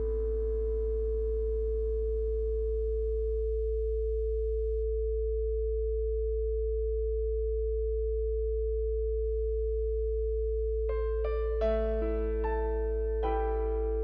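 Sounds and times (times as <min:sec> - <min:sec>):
low electronic hum: 0:00.0 - 0:14.0.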